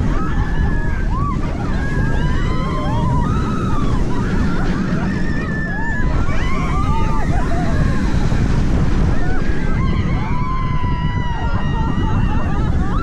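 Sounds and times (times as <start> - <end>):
riders screaming: 0.0 - 13.0
roller coaster rumble: 0.0 - 13.0
wind buffeting microphone: 0.0 - 13.0.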